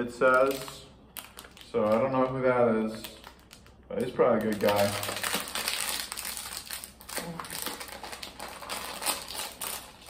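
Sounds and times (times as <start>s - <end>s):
plastic wrapper crackling: 0.2s - 10.0s.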